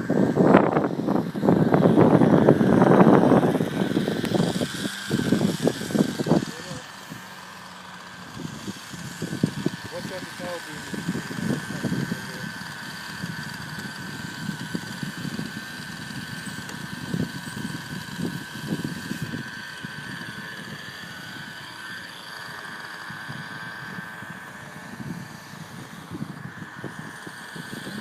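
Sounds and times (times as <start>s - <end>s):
electric model plane motor whining: 0.0s - 28.0s.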